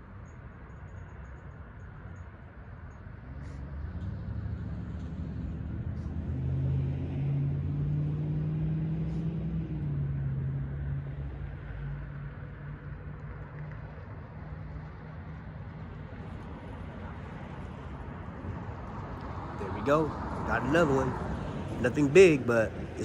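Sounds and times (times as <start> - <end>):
vehicle engine passing by: 3.2 - 23.0.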